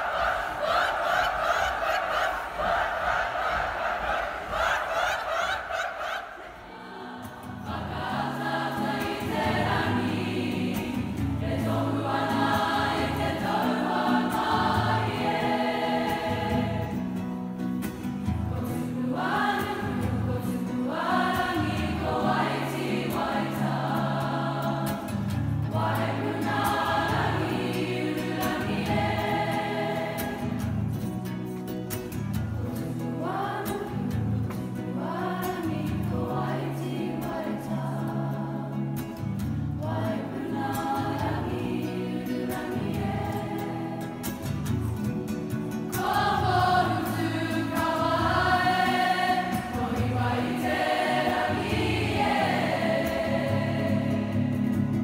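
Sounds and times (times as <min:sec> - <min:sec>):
group of voices singing: 0:00.0 - 0:55.0.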